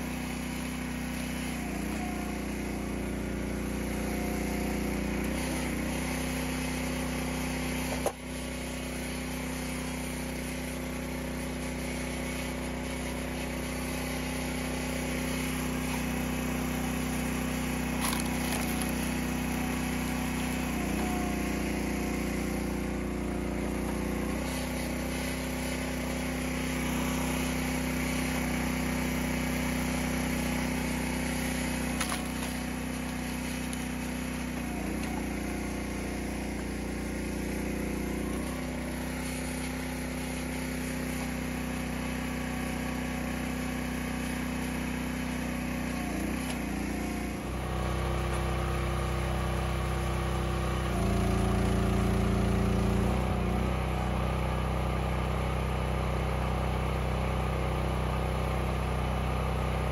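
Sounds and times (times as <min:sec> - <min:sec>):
log splitter engine running: 0:00.0 - 0:59.9.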